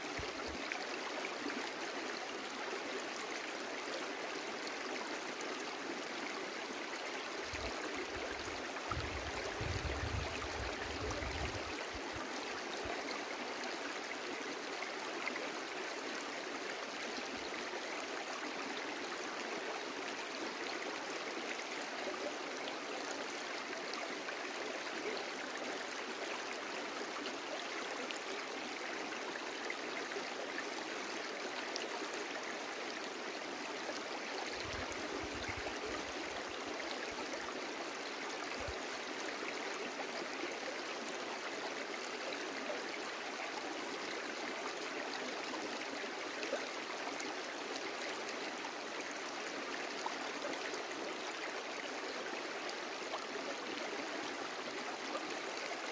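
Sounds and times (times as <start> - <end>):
brook water babbling: 0.0 - 55.9.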